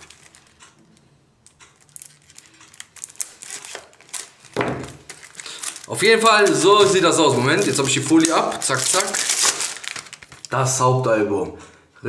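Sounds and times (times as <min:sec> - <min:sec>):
plastic wrap crinkling: 0:00.0 - 0:01.0, 0:01.6 - 0:10.8.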